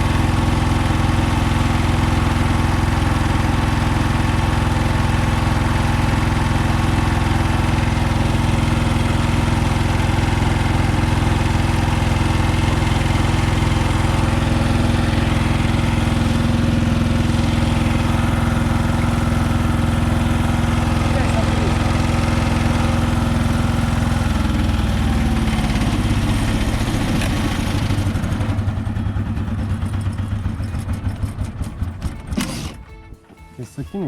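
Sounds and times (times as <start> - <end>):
thresher engine hum: 0.0 - 33.8.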